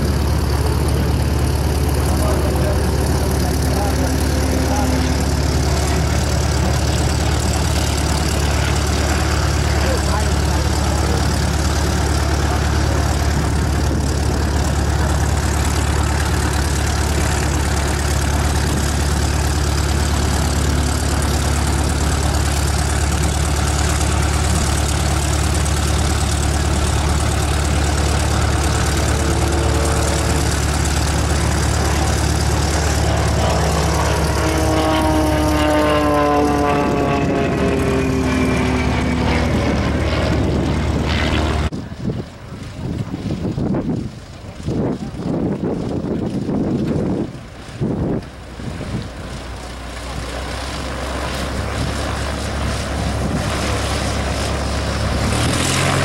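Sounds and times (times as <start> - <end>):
low rumble: 0.0 - 56.0
propeller plane engine: 0.0 - 56.0.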